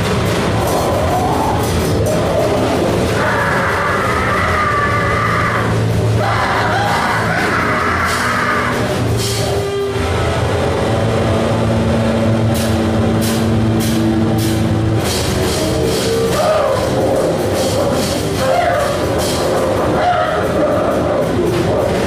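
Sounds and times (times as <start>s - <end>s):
distorted wavering texture: 0.0s - 22.0s
harsh crashing hits: 0.0s - 22.0s
low drone: 0.0s - 22.0s.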